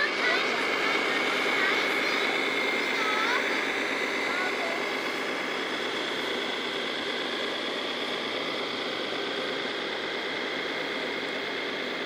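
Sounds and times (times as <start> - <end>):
high-pitched whine: 0.0 - 12.0
model trucks mechanical hum: 0.0 - 12.0.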